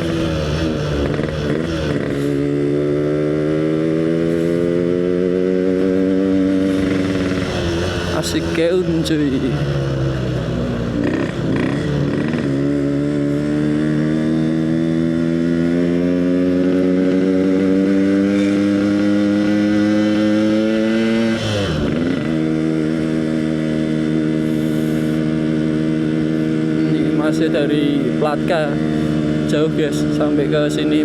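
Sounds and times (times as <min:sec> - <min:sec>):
two-stroke motorcycle engine: 0:00.0 - 0:31.0.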